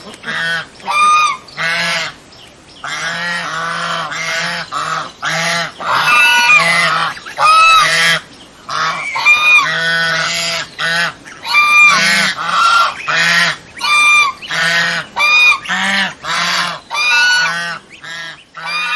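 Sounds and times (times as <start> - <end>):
goose honking: 0.0 - 2.2, 2.8 - 18.9.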